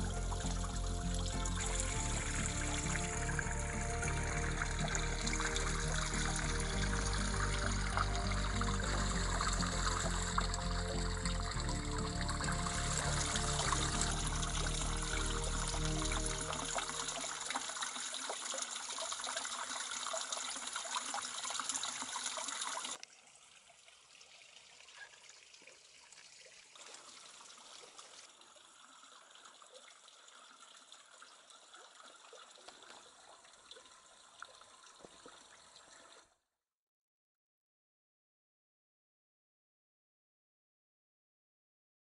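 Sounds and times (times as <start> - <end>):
water trickling onto wet rocks: 0.0 - 36.2.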